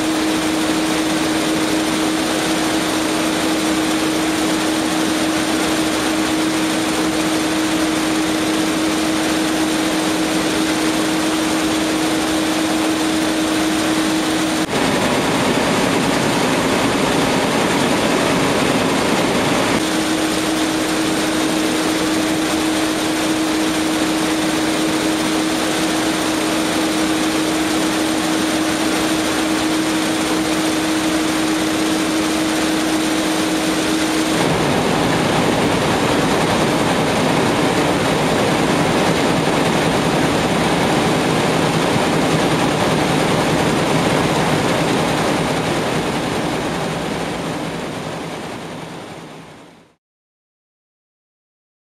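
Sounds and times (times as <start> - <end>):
machine hum: 0.0 - 50.0.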